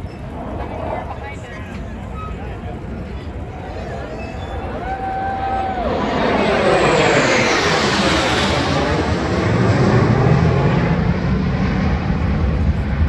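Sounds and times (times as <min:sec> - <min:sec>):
fighter jets flying overhead: 0:00.0 - 0:13.0.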